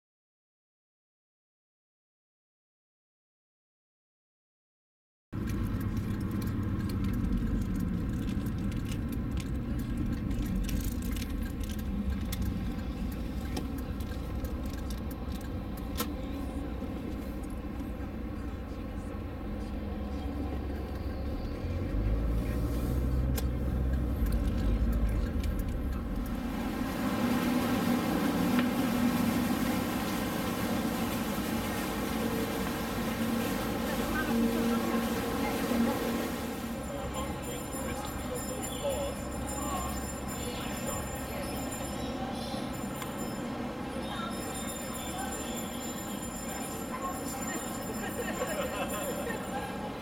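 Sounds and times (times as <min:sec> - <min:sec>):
road and engine rumble in car: 0:05.4 - 0:47.5.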